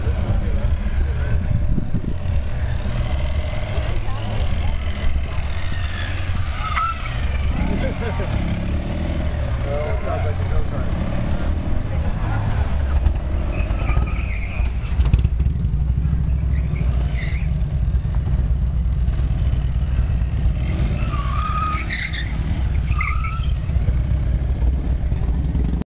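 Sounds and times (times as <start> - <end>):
motorcycle engine rumbling: 0.0 - 25.8.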